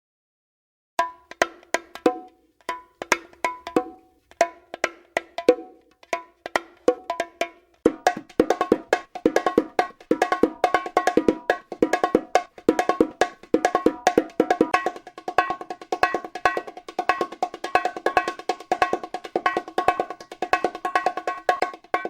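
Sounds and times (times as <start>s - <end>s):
bongos played fast: 1.0s - 22.0s.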